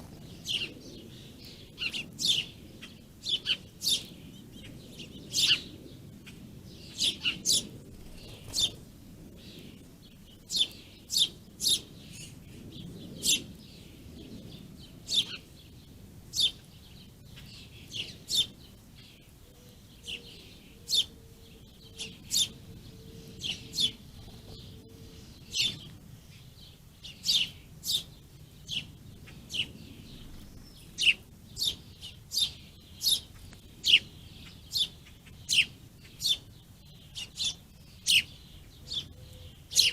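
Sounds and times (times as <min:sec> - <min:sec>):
faint low rumble: 0:00.0 - 0:37.0
small songbirds chirping: 0:00.0 - 0:39.9.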